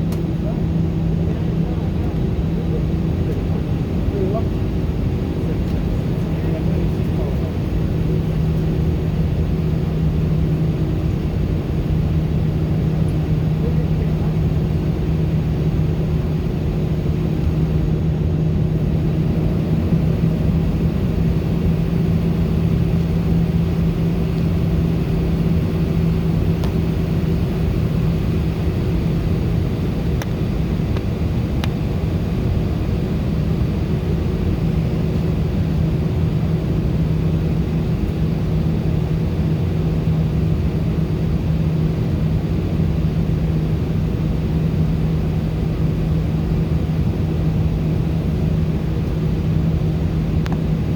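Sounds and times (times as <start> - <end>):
airplane cabin hum: 0.0 - 50.9.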